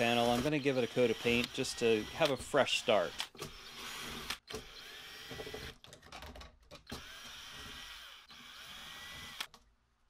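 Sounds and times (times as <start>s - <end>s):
cordless drill motor whining: 0.0s - 5.8s, 6.9s - 9.5s.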